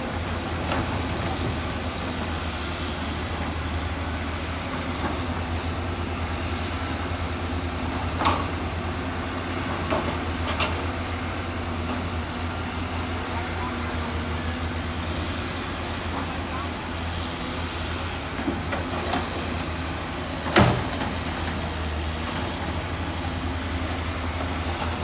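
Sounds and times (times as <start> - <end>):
heavy diesel machinery running: 0.0 - 25.0.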